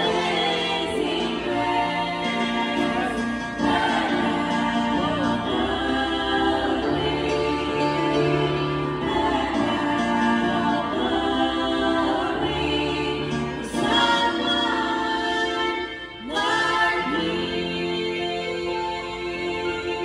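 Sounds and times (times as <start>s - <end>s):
keyboard accompaniment: 0.0s - 20.0s
women singing gospel song: 0.0s - 20.0s.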